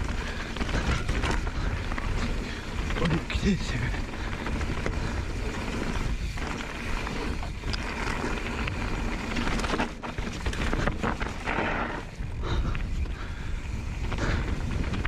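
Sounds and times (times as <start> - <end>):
bike rattling: 0.0 - 15.0.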